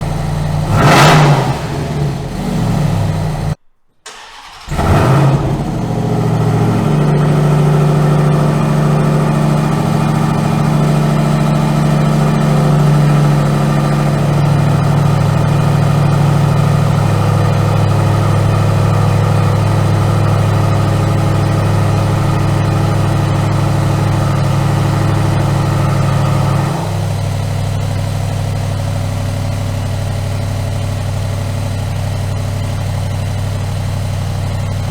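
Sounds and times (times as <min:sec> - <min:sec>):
truck engine revving and idling: 0:00.0 - 0:03.7, 0:04.4 - 0:34.9.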